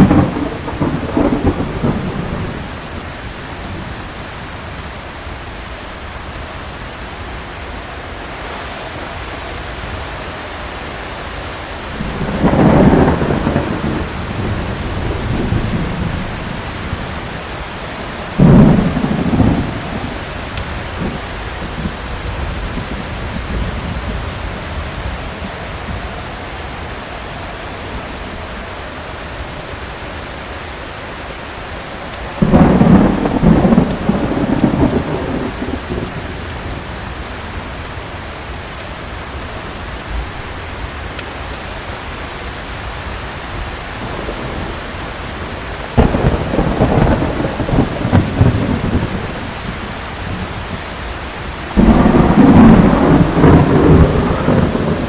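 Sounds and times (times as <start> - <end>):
thunder rumbling: 0.0 - 6.6, 8.5 - 55.0
heavy rain: 0.0 - 55.0.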